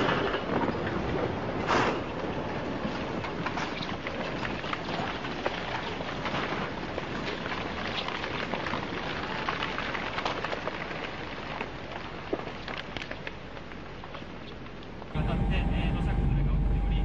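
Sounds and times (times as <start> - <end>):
landslide rushing with crackles: 0.0 - 15.1.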